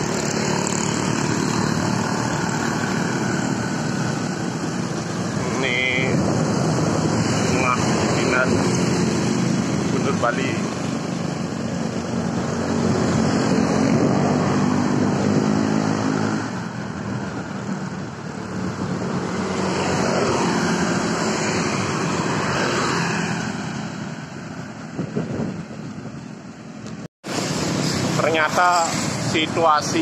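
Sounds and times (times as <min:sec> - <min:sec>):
motorcycles passing: 0:00.0 - 0:30.0
road traffic: 0:00.0 - 0:30.0.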